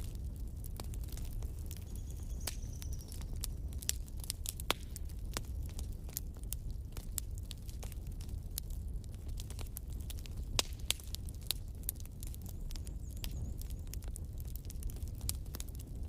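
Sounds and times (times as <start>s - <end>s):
logs crackling and popping: 0.0s - 16.0s
low rumble of flame: 0.0s - 16.0s.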